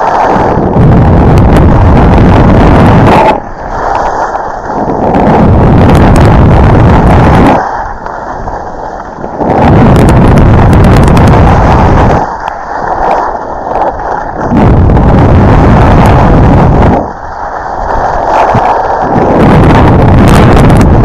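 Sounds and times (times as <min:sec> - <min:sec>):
skis sliding over snow hiss: 0:00.0 - 0:21.0
wind rushing over microphone: 0:00.0 - 0:21.0.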